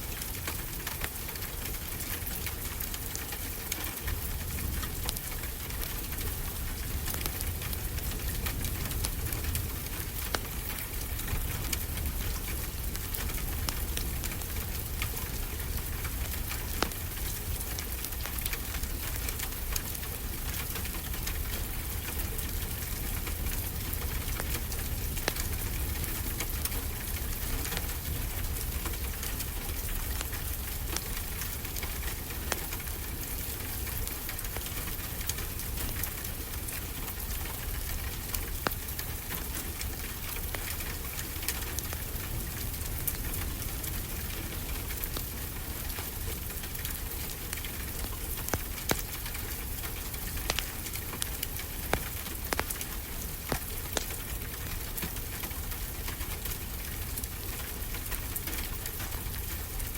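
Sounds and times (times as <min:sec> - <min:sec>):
rain falling: 0:00.0 - 0:59.9
wood fire crackles: 0:00.0 - 0:59.9.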